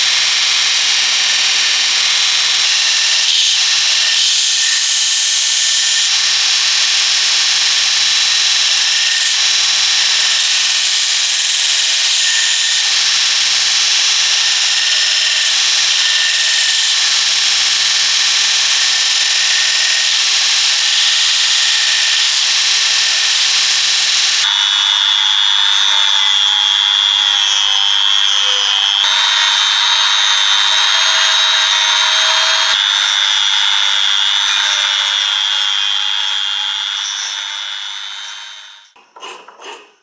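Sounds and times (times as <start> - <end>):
power tool whining: 0.0 - 39.0.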